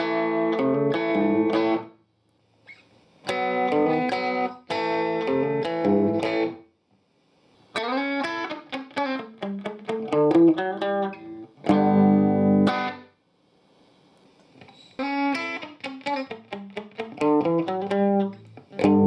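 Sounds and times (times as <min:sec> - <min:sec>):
electric guitar playing: 0:00.0 - 0:02.0, 0:02.7 - 0:06.6, 0:07.8 - 0:13.1, 0:14.6 - 0:19.0.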